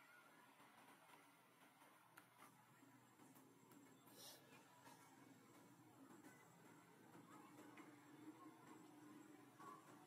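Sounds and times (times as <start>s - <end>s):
faint background hum: 0.0s - 10.0s.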